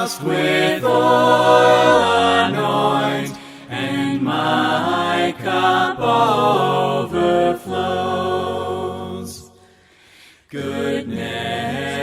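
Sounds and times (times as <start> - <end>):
group singing a hymn: 0.0 - 9.8, 10.5 - 12.0.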